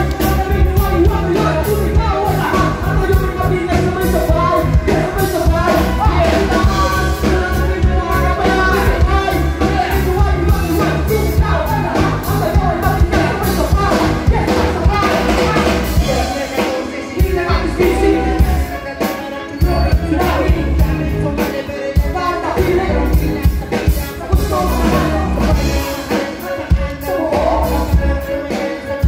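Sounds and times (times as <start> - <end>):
live band playing: 0.0 - 29.0
person rapping into a microphone: 0.0 - 29.0.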